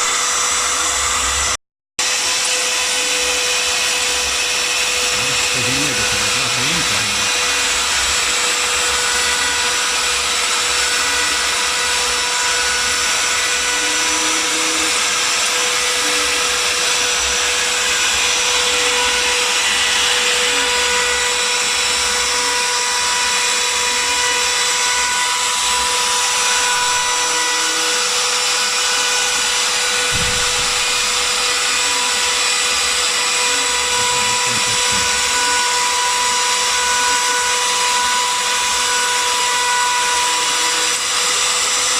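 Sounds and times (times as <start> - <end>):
router spindle whining: 0.0 - 41.9.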